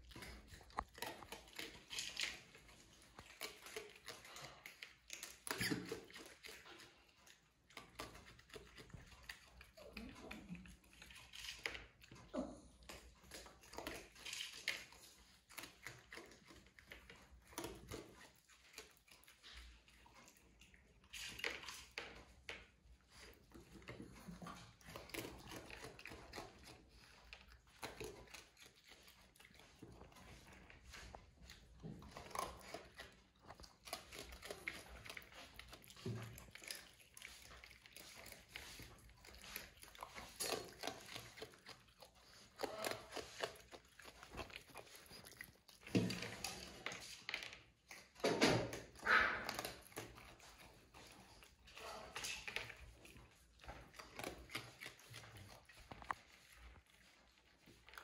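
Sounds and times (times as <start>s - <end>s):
raccoon chewing and crunching: 0.0s - 58.0s.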